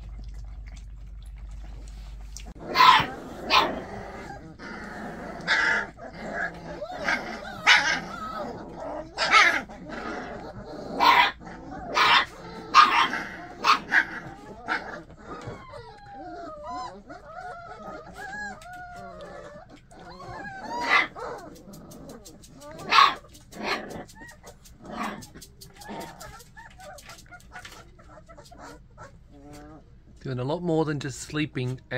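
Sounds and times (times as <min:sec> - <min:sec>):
puppies yipping and barking: 0:00.0 - 0:30.2.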